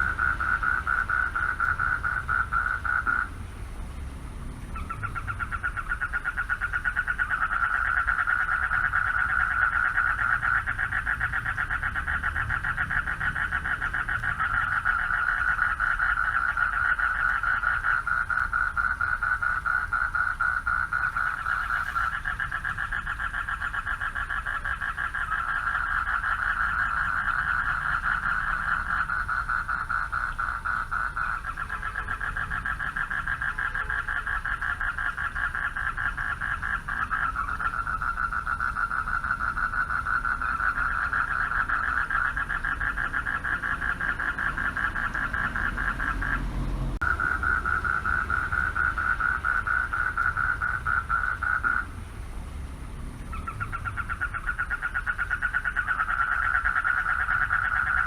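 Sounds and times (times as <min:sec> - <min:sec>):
frogs chorus trilling: 0:00.0 - 0:52.2, 0:53.0 - 0:58.0.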